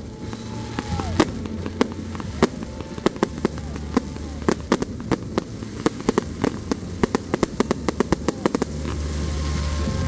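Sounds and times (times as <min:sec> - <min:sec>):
fireworks cracking and popping: 0:00.0 - 0:10.0
low rumble: 0:00.0 - 0:10.0
steady hiss: 0:00.0 - 0:10.0.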